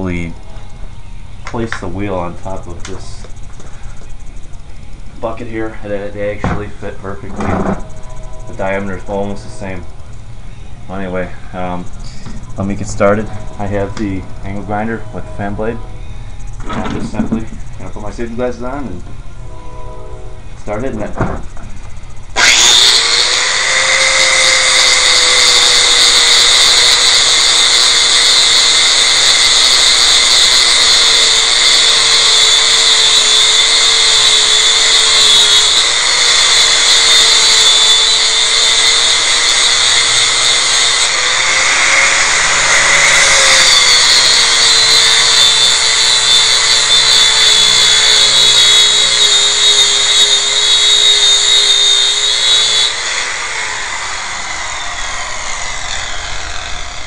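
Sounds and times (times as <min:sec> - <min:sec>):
angle grinder grinding metal: 0:02.2 - 0:57.0.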